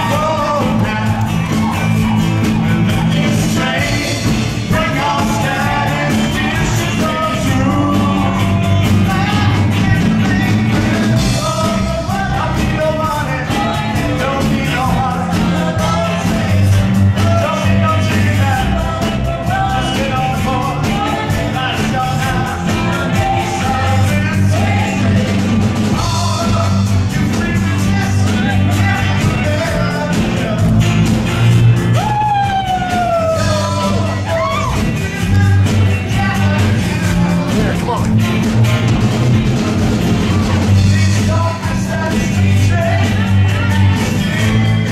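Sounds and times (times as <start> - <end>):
live rock and roll band: 0.0 - 44.9
people singing: 0.0 - 44.9.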